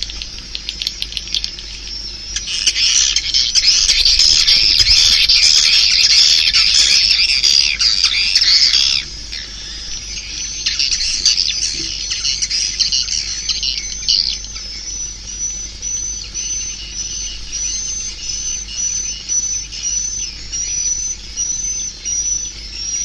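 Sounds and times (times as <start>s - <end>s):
swiftlet twittering chirps: 0.0s - 23.0s.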